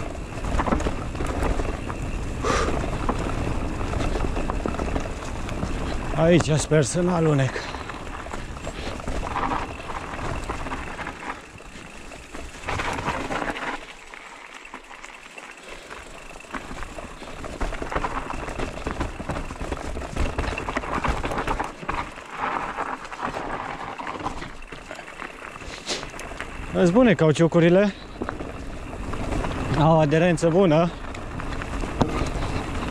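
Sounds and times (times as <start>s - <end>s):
bike rattling and knocking: 0.0s - 32.9s
tyres rolling on dirt: 0.0s - 32.9s.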